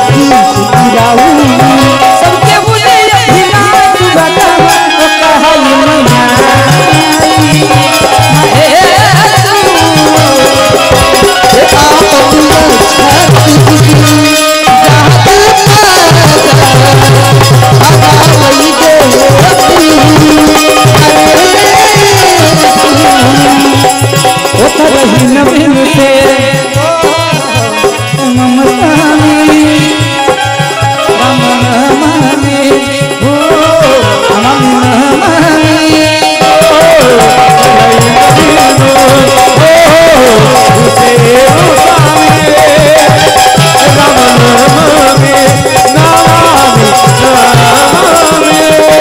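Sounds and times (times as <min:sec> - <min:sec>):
hand drum rhythm: 0:00.0 - 0:49.0
harmonium melody: 0:00.0 - 0:49.0.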